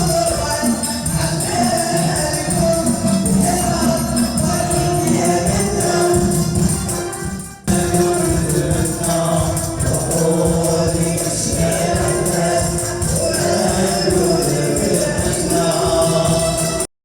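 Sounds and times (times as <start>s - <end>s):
group of voices singing: 0.0s - 16.9s
hand drum: 0.0s - 16.9s
tambourine: 0.0s - 16.9s.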